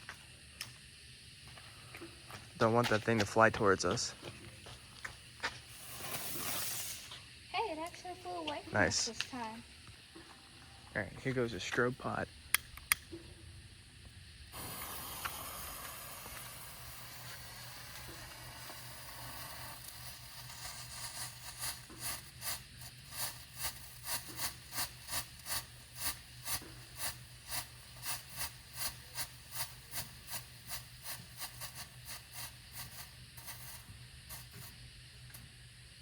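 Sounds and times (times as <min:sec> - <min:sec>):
firework hiss: 0:00.0 - 0:10.2, 0:11.2 - 0:36.0
strobe firework pulsing bursts: 0:00.0 - 0:10.2, 0:13.4 - 0:36.0.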